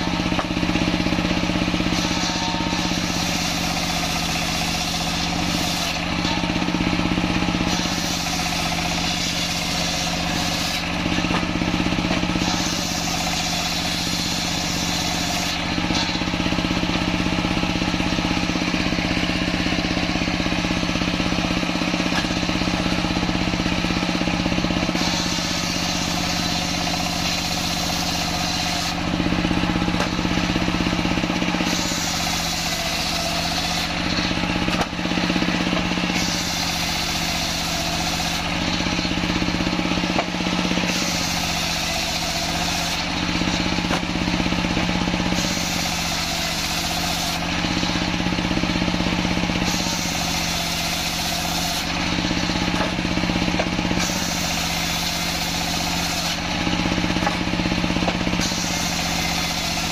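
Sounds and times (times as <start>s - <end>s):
circular saw cutting log: 0.0s - 59.9s
diesel engine hum: 0.0s - 59.9s.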